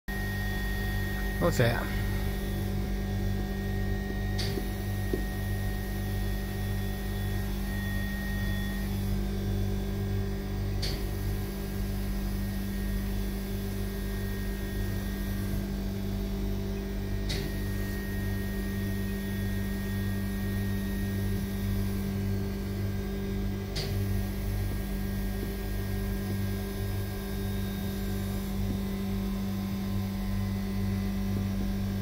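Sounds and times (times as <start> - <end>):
deep machine hum: 0.1 - 32.0.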